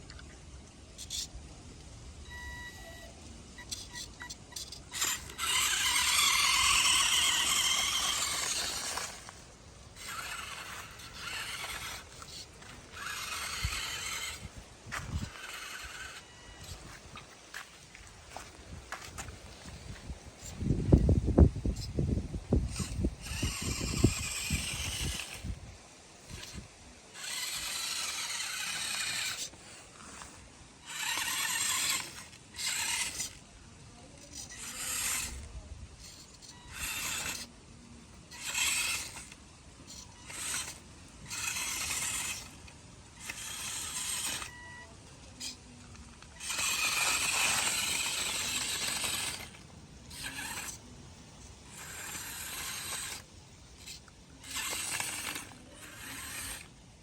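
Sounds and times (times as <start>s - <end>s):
toy tractor motor whirring: 0.0s - 57.0s.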